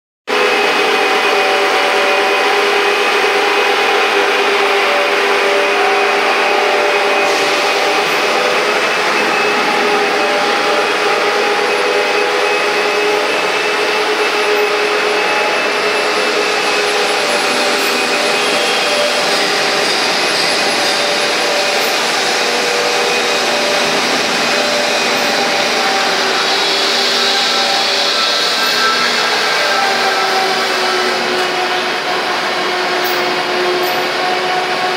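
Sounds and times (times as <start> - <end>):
mill machinery hum and whine: 0.3 - 34.9.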